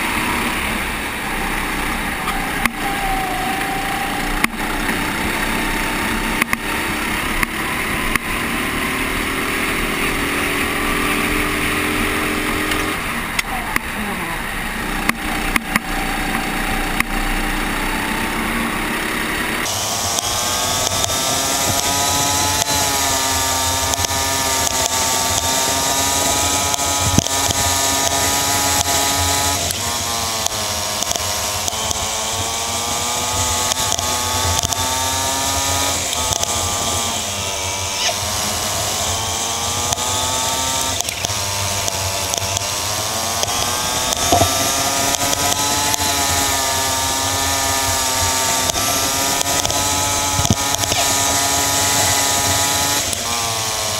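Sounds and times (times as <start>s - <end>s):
kart engine at speed: 0.0s - 53.9s.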